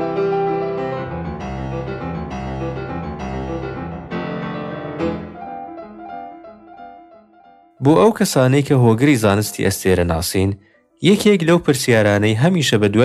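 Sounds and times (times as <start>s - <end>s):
instrumental keyboard music: 0.0s - 12.3s.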